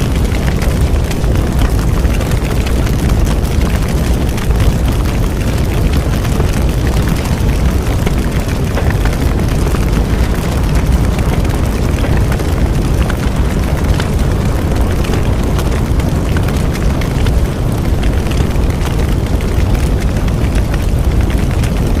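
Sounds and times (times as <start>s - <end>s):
bonfire flames rumbling: 0.0s - 22.0s
burning wood crackling: 0.0s - 22.0s.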